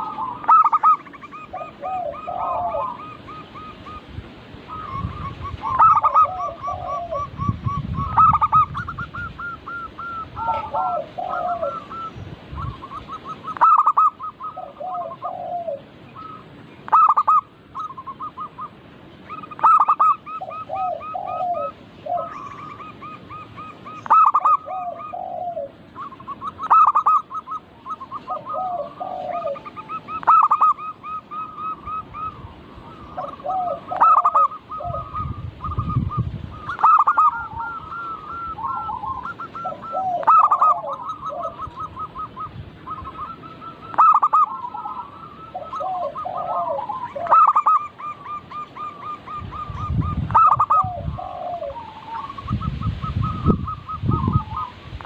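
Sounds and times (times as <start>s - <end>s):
doves trilling coos: 0.0s - 55.0s.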